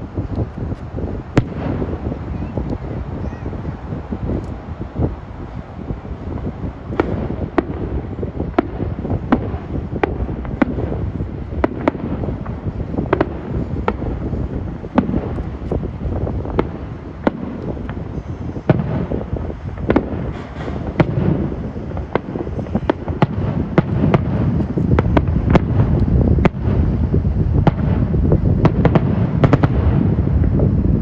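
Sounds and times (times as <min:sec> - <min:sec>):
fireworks bursting bangs: 0:00.0 - 0:31.0.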